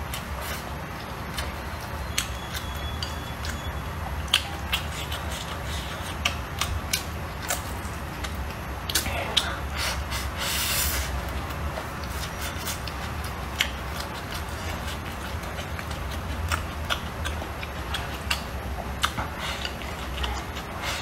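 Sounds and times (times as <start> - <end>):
chewing food: 0.0 - 10.2, 11.0 - 21.0.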